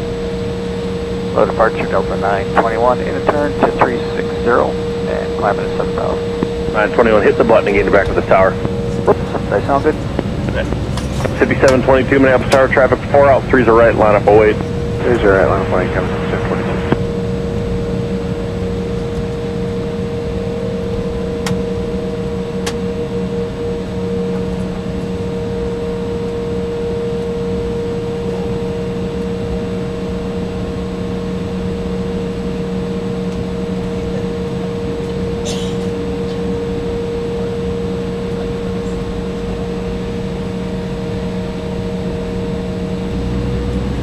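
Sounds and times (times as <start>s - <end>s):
jet engines idling hum and whine: 0.0s - 44.0s.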